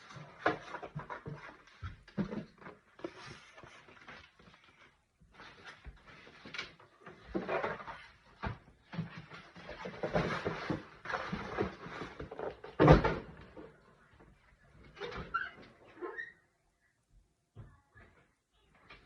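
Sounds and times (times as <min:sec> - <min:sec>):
rustling and scraping of handled objects: 0:00.0 - 0:16.4.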